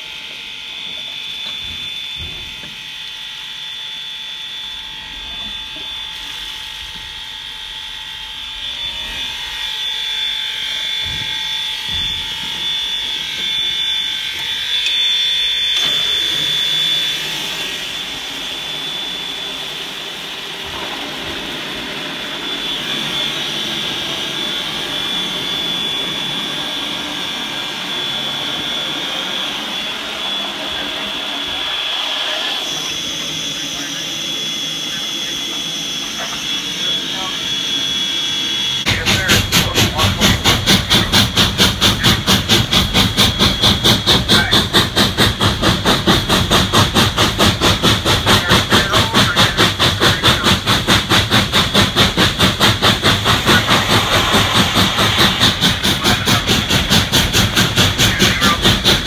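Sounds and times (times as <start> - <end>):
steam hissing with high whine: 0.0 - 59.0.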